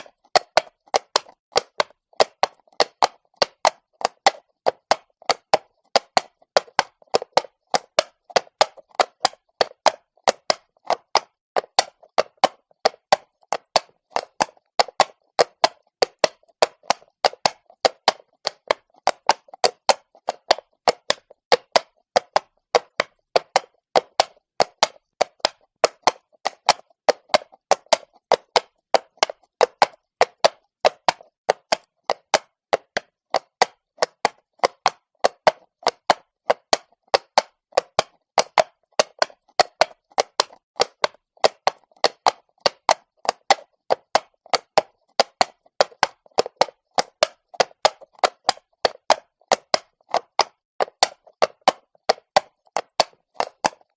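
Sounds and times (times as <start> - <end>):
horse hooves on cobblestones: 0.0 - 53.9.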